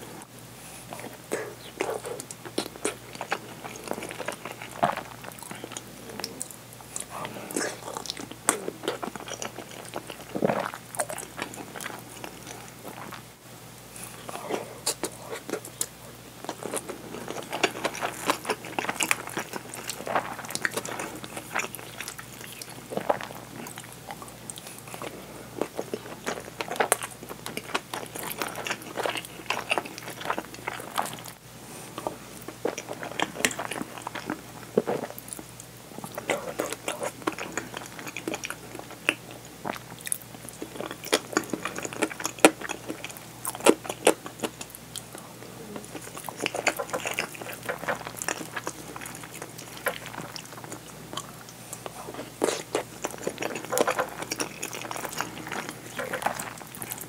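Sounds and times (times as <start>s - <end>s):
person chewing and mouth sounds: 0.8s - 13.3s, 13.9s - 57.0s.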